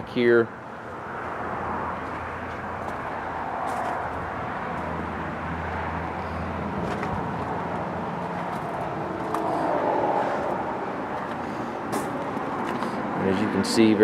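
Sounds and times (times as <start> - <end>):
engine hum: 0.0 - 14.0
outdoor background noise: 0.0 - 14.0.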